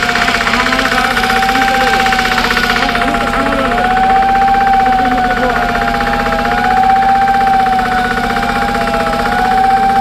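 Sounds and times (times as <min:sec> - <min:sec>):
crane diesel engine under load: 0:00.0 - 0:10.0.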